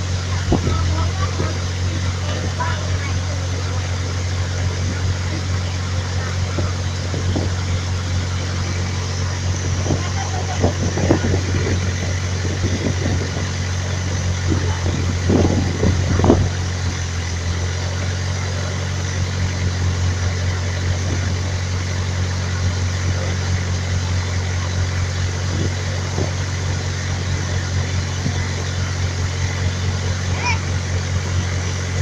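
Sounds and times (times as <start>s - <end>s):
motorboat engine droning: 0.0s - 32.0s.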